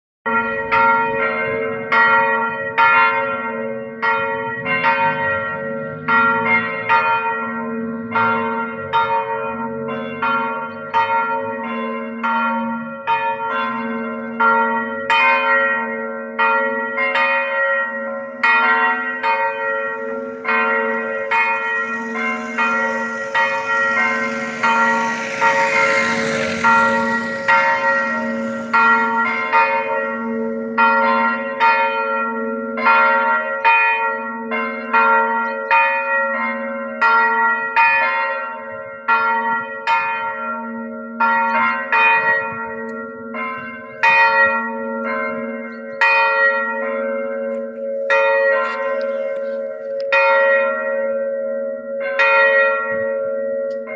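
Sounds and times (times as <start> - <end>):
higher church bell strokes: 0.3 - 53.9
hum of deeper bells: 0.3 - 53.9.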